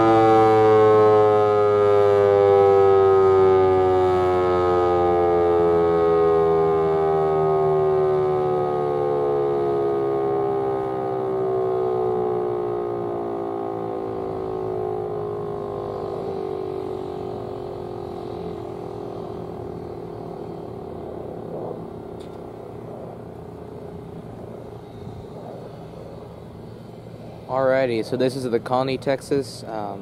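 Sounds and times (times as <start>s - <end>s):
warning siren winding down: 0.0s - 28.8s.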